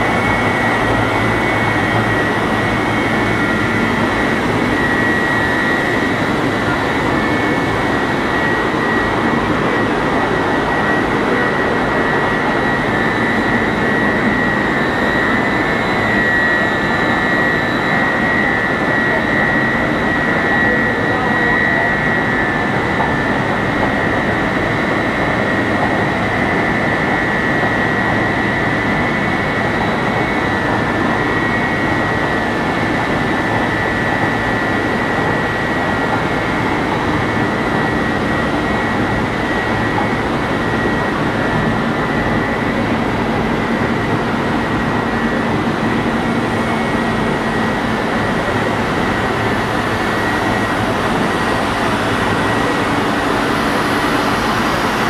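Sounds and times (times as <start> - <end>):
high-pitched machine whine: 0.0 - 55.0
loud steady machine noise: 0.0 - 55.0.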